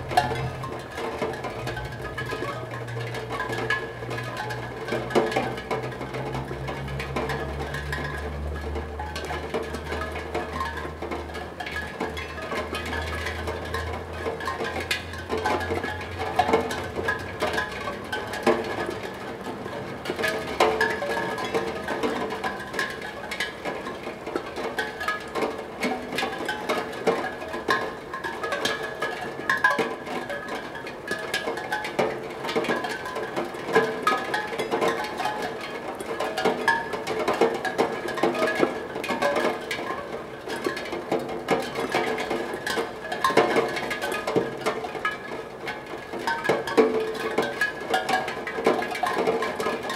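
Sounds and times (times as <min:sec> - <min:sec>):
raindrops tapping: 0:00.0 - 0:49.9.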